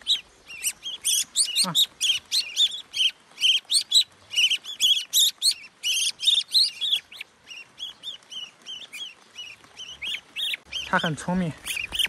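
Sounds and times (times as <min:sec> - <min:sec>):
fledgling bird chirping: 0:00.0 - 0:12.0
wings fluttering: 0:00.0 - 0:12.0.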